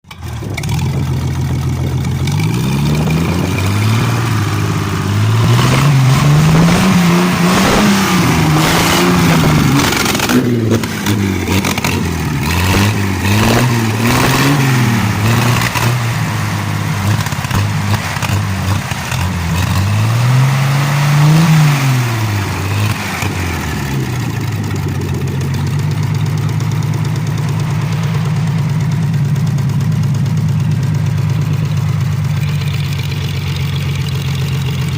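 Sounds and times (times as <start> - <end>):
engine revving and idling: 0.0 - 34.9.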